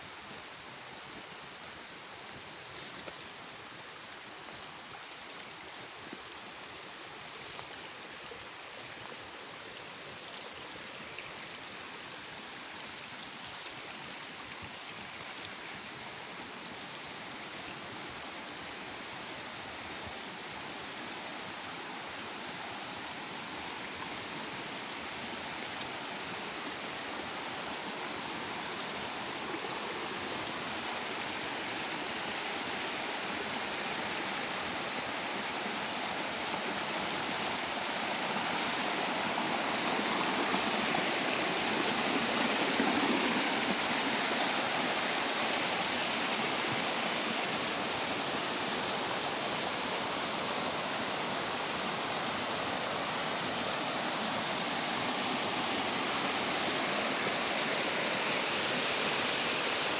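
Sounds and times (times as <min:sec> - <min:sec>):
crickets trilling: 0:00.0 - 0:59.9
stream rushing over rocks: 0:05.4 - 0:59.9.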